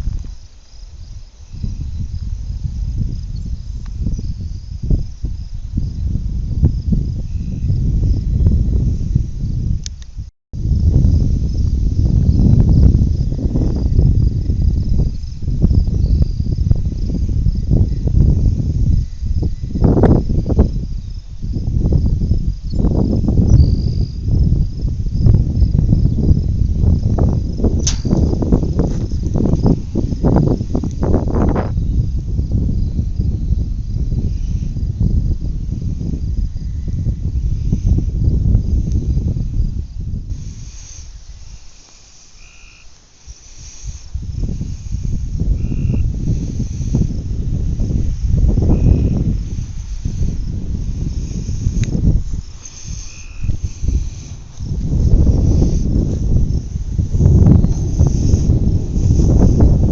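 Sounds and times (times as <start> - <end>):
crickets chirping: 0.0 - 59.9
low gusty rumble: 0.0 - 59.9
wind buffeting microphone: 0.0 - 59.9.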